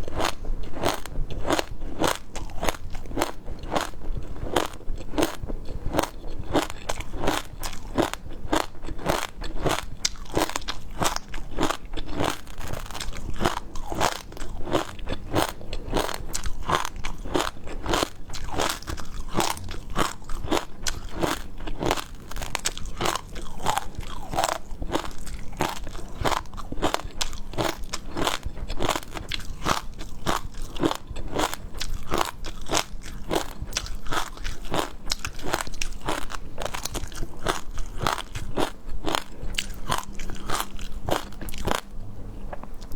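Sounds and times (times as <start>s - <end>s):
crunchy bites and chewing: 0.0s - 41.9s.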